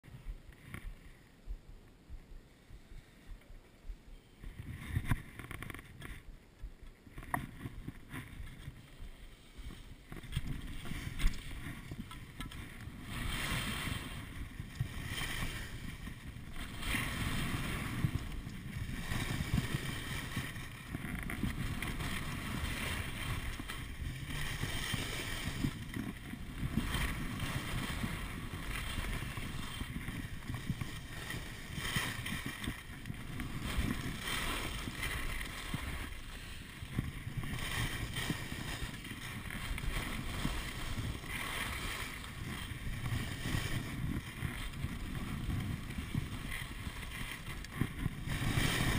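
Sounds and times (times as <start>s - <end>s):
wind buffeting microphone: 2.7s - 48.9s
skis scraping over snow: 7.0s - 48.9s.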